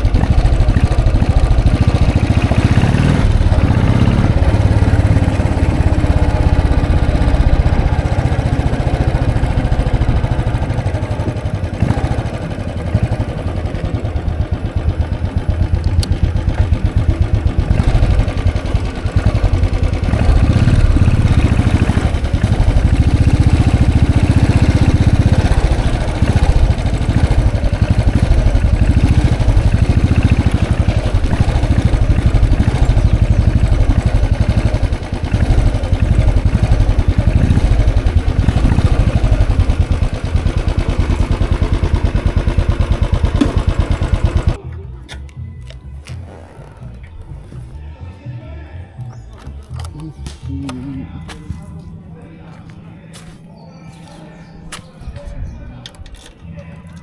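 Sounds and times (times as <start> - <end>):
motorcycle engine running: 0.0 - 48.3.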